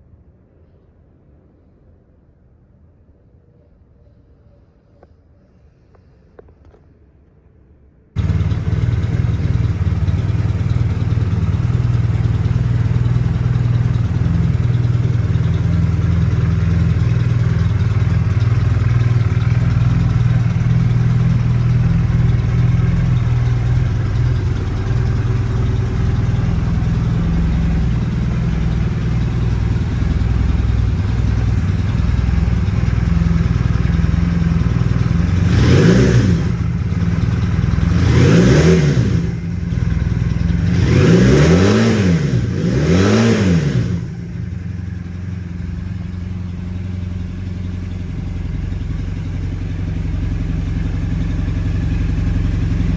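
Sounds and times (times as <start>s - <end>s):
motorcycle engine idling: 8.2s - 52.9s.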